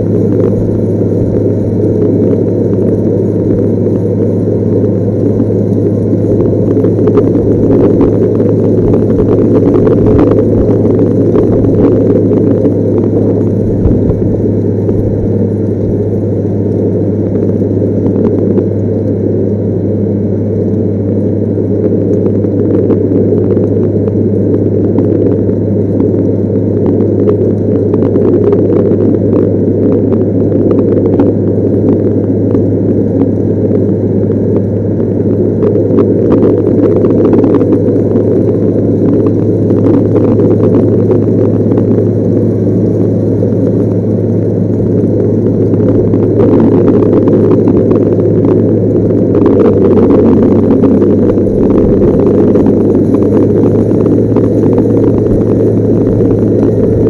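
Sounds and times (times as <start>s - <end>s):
loader diesel engine droning: 0.0s - 57.0s.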